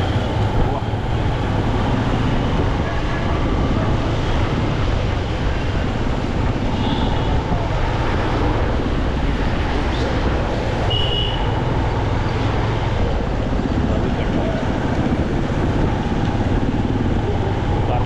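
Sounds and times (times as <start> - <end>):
motorcycle engine and traffic rumble: 0.0 - 18.0.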